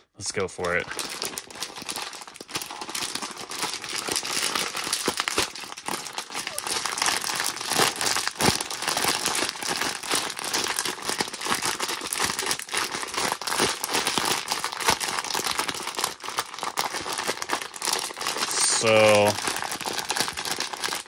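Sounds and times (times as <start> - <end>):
grain crackling: 0.6 - 21.0
plastic bag crinkling: 0.6 - 21.0.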